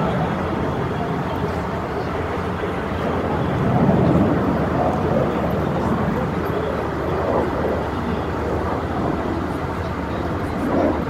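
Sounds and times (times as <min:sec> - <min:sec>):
fighter jet engines rushing: 0:00.0 - 0:11.0.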